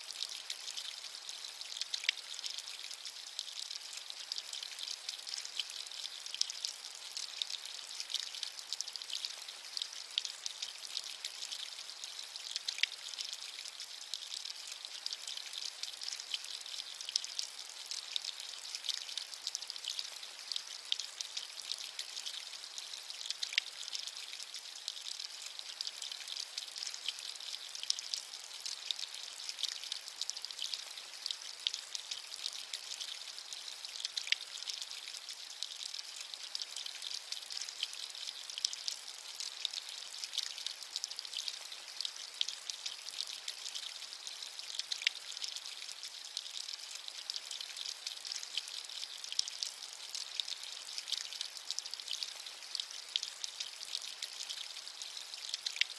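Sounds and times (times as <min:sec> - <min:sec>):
rain pattering on a surface: 0:00.0 - 0:55.9.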